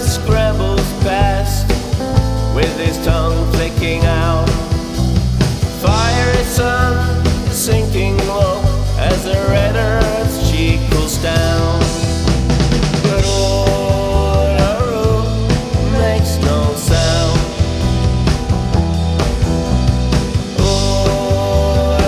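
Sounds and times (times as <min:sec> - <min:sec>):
bass: 0:00.0 - 0:22.0
drum kit: 0:00.0 - 0:22.0
rhythm guitar: 0:00.0 - 0:22.0.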